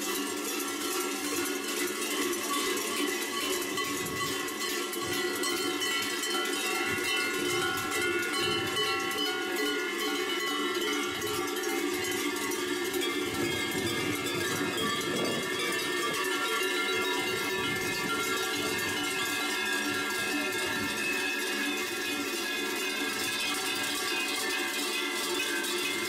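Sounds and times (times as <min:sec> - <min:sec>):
large cowbells clanging: 0:00.0 - 0:26.0.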